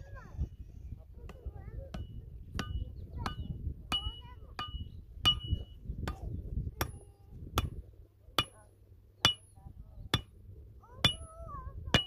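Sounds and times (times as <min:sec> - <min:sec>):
hammering on metal: 0:01.2 - 0:07.8, 0:08.4 - 0:12.0.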